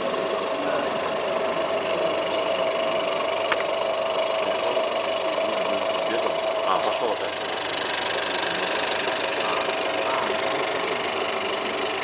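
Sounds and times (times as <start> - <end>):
electric motor humming and whining: 0.0 - 12.0.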